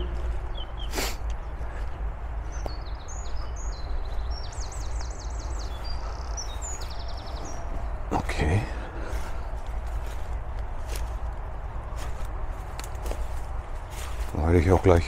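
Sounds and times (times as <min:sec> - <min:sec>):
songbirds singing: 0:00.0 - 0:15.0
steady low rumble: 0:00.0 - 0:15.0.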